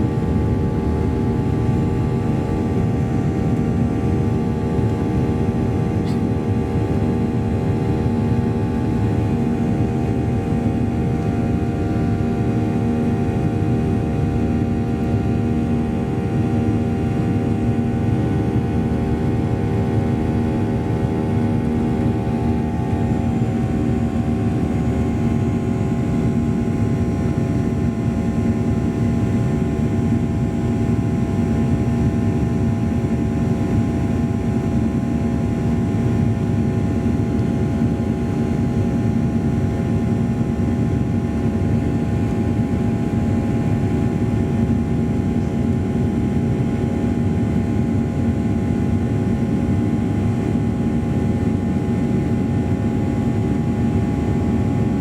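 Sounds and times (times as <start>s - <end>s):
jet engine drone: 0.0s - 55.0s.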